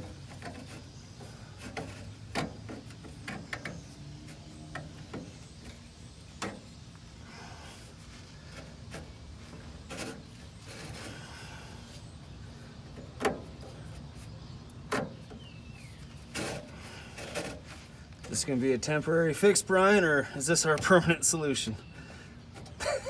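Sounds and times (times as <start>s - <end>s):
light rubbing on exhaust pipe: 0.0s - 18.7s.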